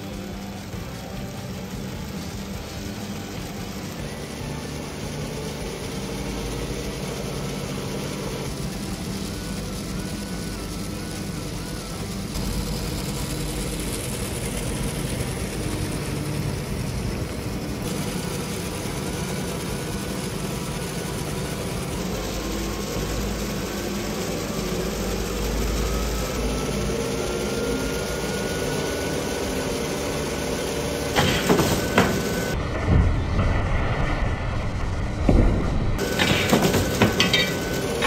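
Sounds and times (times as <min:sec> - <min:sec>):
faint rising whine: 0:00.0 - 0:38.0
treadmill and motors whirring: 0:00.0 - 0:38.0.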